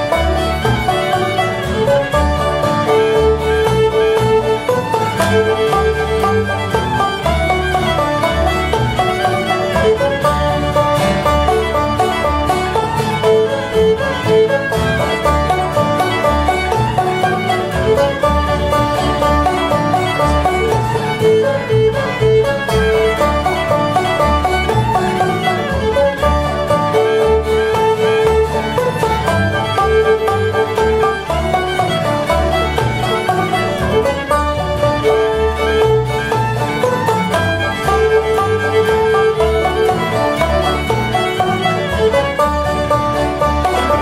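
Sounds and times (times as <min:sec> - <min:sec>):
banjo: 0:00.0 - 0:44.0
fiddle melody: 0:00.0 - 0:44.0
guitar: 0:00.0 - 0:44.0
upright bass: 0:00.0 - 0:44.0.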